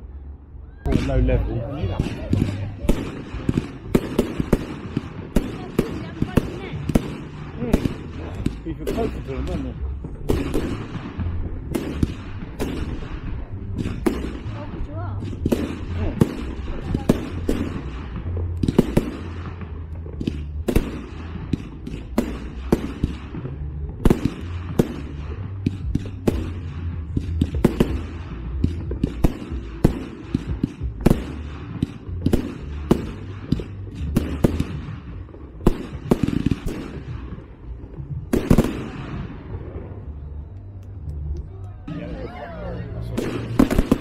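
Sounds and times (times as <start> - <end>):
low rumble: 0.0 - 44.0
fireworks bursting: 0.8 - 41.4, 42.9 - 44.0.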